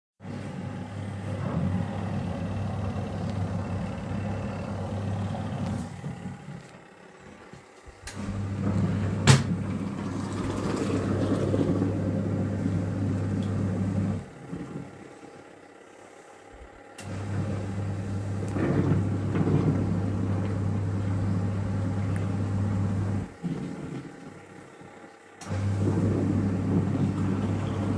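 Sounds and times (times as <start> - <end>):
washing machine motor hum: 0.2 - 27.9.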